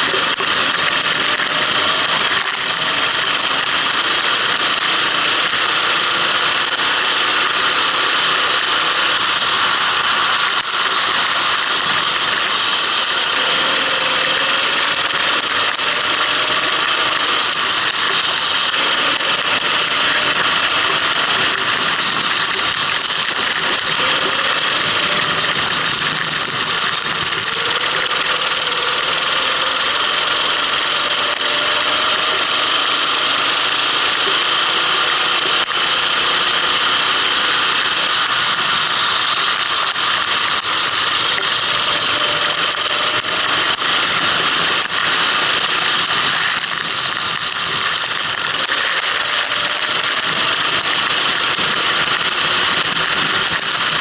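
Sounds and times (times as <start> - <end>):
kart engine running: 0.0 - 54.0.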